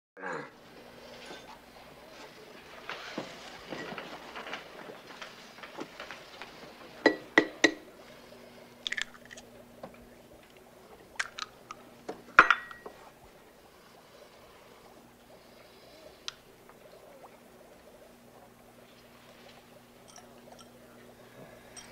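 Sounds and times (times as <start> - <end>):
faint steady hum: 0.3 - 21.9.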